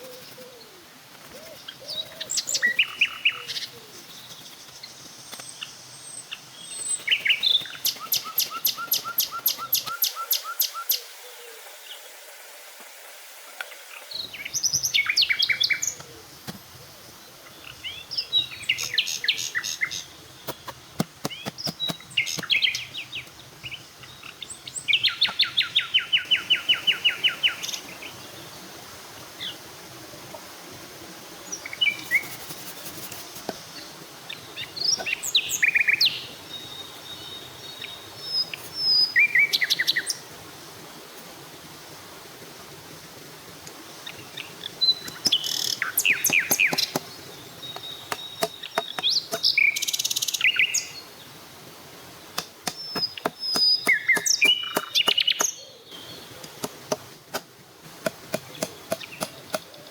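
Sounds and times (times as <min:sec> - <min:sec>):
forest ambience hum: 0:00.0 - 0:59.9
birds singing: 0:01.3 - 0:12.0, 0:13.6 - 0:28.7, 0:31.4 - 0:40.2, 0:44.0 - 0:51.4, 0:52.2 - 0:57.4, 0:58.0 - 0:59.9.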